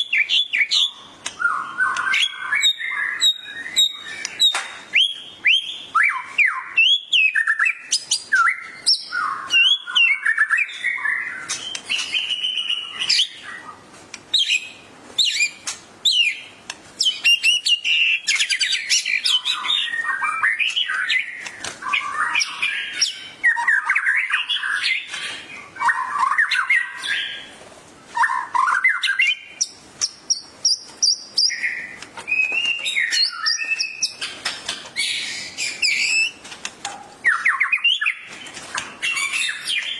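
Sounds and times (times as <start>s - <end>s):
bird singing whistles and chirps: 0.0s - 27.5s, 28.2s - 34.3s, 35.0s - 36.4s, 37.2s - 38.3s, 39.0s - 39.9s.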